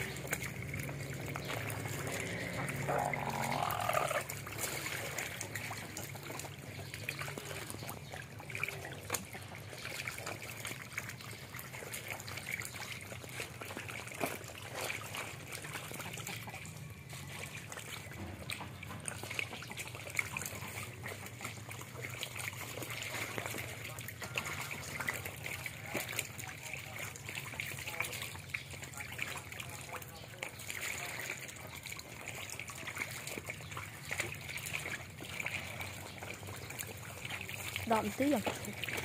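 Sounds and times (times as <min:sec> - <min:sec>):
small splashes and clicks: 0:00.0 - 0:39.0
water trickling: 0:00.0 - 0:39.0.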